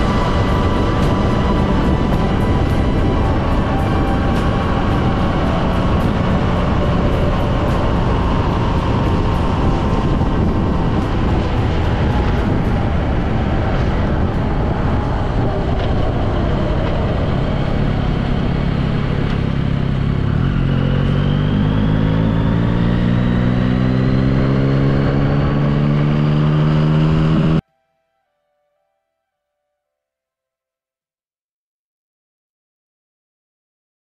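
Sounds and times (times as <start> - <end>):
motorcycle engine accelerating: 0.0 - 27.6
wind rush on microphone: 0.0 - 27.6.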